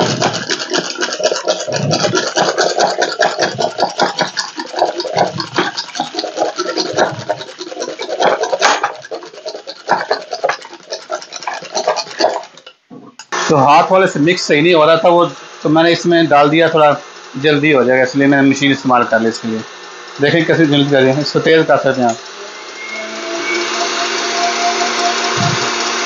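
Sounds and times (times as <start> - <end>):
hand whisk beating eggs: 0.0 - 26.0.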